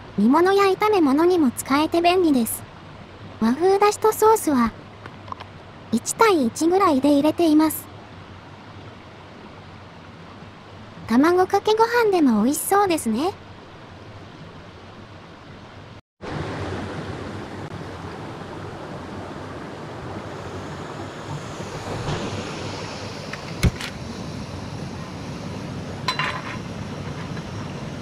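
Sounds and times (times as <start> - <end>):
stream flowing: 0.0 - 28.0.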